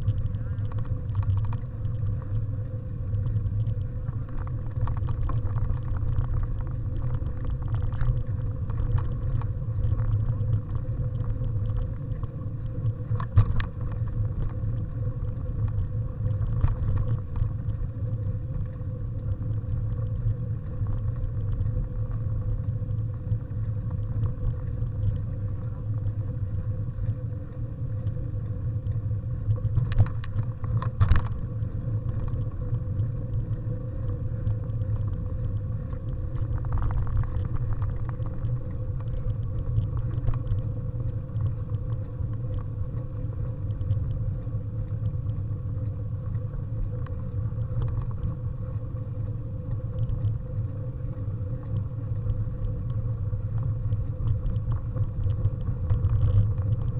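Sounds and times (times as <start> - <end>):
bicycle tyres rumbling on gravel: 0.0 - 56.9.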